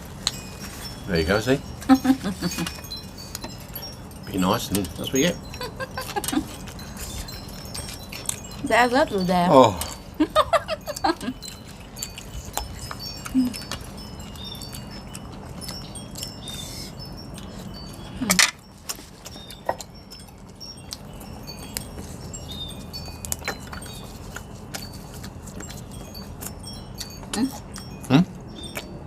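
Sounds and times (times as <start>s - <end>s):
wind chimes tinkling: 0.0s - 29.0s.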